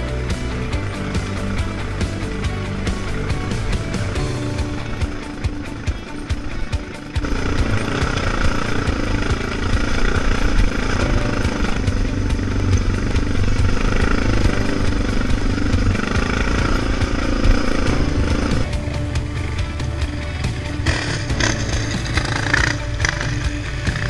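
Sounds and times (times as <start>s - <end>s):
motorcycle engine under load: 0.0s - 24.0s.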